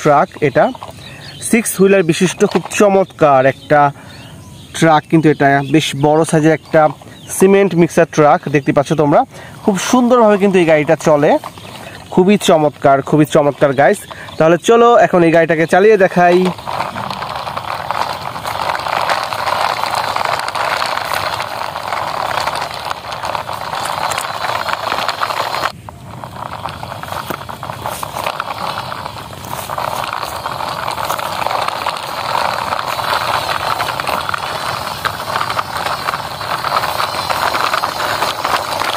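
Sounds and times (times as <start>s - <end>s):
toy truck rattling over dry mud: 0.0s - 38.9s.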